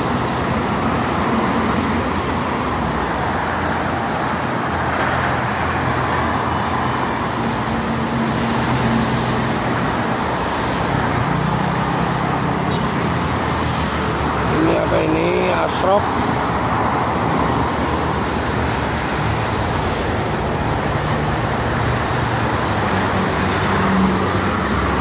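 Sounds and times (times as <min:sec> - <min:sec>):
heavy motorway traffic: 0:00.0 - 0:25.0
heavy vehicle engine hum: 0:00.0 - 0:25.0.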